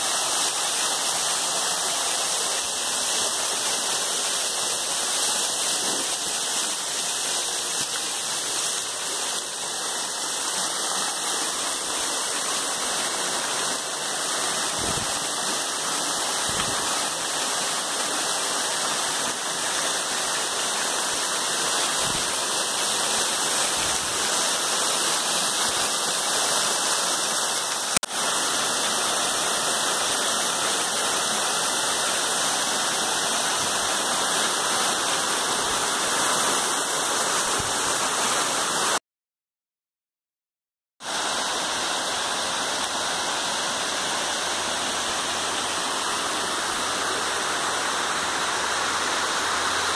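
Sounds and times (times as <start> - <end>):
waterfall splashing on rocks: 0.0 - 39.0, 41.0 - 49.9.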